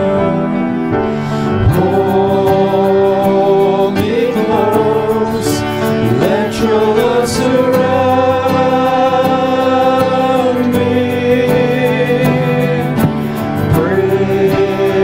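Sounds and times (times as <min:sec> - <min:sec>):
instrumental accompaniment: 0:00.0 - 0:15.0
person singing worship song: 0:00.0 - 0:15.0.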